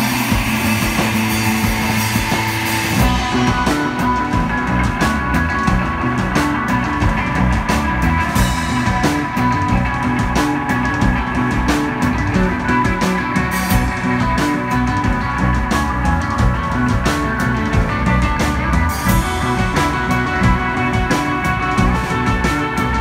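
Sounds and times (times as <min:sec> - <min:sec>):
bass guitar: 0:00.0 - 0:23.0
drum and cymbal hits: 0:00.0 - 0:23.0
electric guitar: 0:00.0 - 0:23.0.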